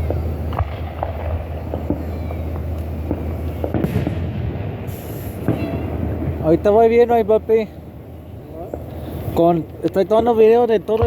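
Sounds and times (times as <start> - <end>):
fireworks pops and crackles: 0.0 - 7.7, 8.3 - 11.0
low rumble: 0.0 - 9.8.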